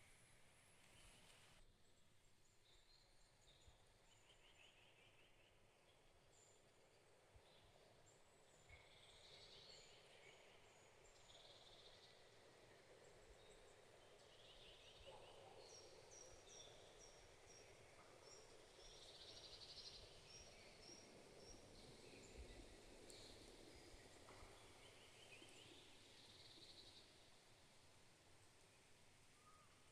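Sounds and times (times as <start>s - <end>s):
faint birdsong: 0.0s - 29.9s
soft background hiss: 0.0s - 29.9s.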